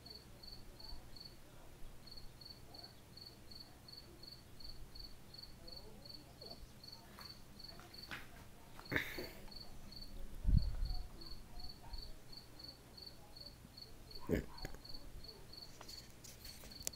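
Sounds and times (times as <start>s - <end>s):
cricket chirping: 0.0s - 1.4s, 2.0s - 8.1s, 8.9s - 16.0s.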